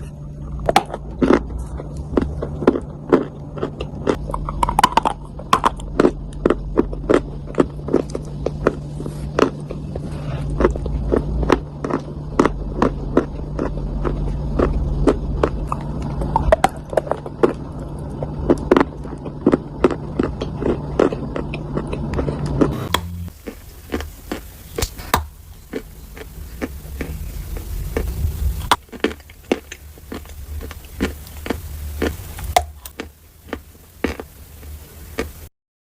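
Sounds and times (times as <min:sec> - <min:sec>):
low steady hum: 0:00.0 - 0:35.5
dry clay crunching: 0:00.6 - 0:34.3.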